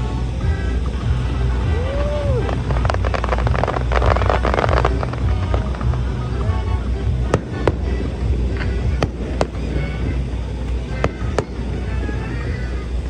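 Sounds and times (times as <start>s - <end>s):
fireworks bangs: 0.0s - 13.0s
low rumble: 0.0s - 13.0s.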